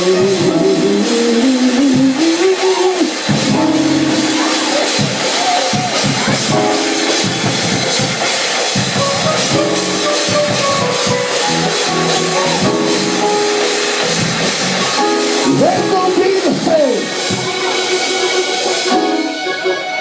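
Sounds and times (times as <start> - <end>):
drum kit beat: 0.0 - 20.0
sustained chords: 3.3 - 20.0.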